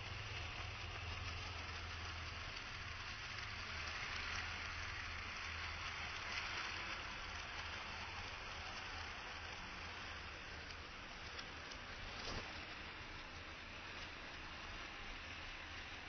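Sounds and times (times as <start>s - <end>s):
model train whirring on track: 0.0s - 16.0s.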